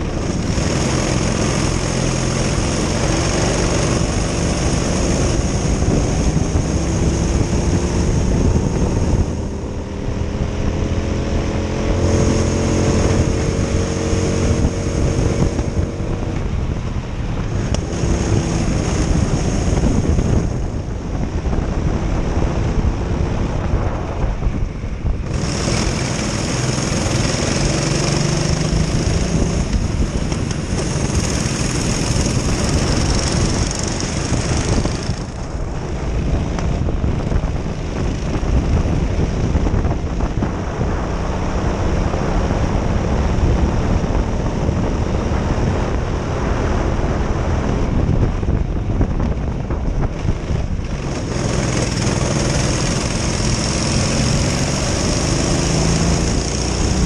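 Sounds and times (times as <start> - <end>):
racing kart engine: 0.0 - 57.0
wind noise on microphone: 0.0 - 57.0.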